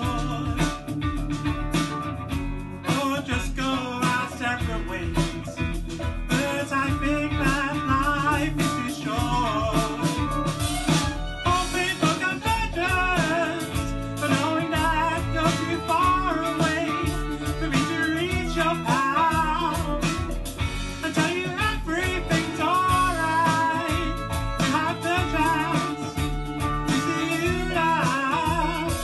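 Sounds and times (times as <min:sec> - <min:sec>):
person singing: 0:00.0 - 0:01.4, 0:02.8 - 0:29.0
bass guitar: 0:00.0 - 0:29.0
drums: 0:00.0 - 0:29.0
guitar: 0:00.0 - 0:29.0.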